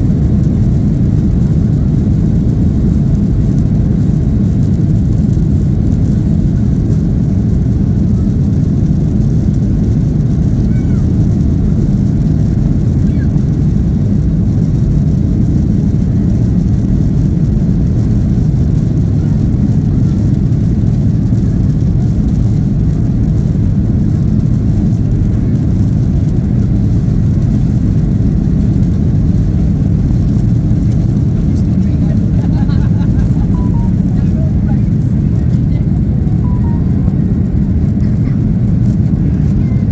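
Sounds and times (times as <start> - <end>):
jet engine rumble: 0.0 - 39.9.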